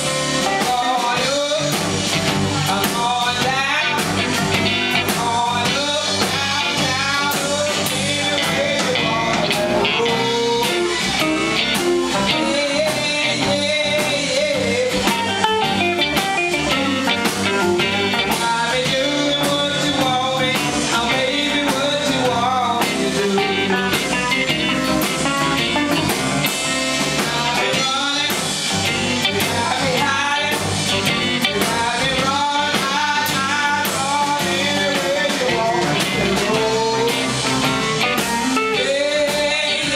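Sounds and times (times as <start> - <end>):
drum kit: 0.0 - 39.9
electric bass: 0.0 - 39.9
electric guitars: 0.0 - 39.9.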